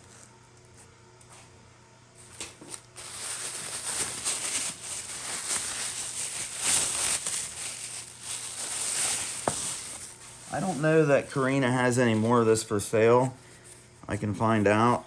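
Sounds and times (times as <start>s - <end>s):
plastic bags rustling: 2.6s - 14.9s.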